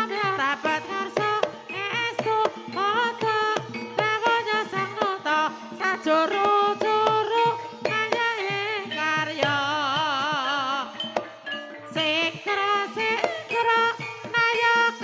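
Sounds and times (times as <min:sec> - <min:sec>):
gamelan music: 0:00.0 - 0:15.0
person singing melody: 0:00.0 - 0:15.0.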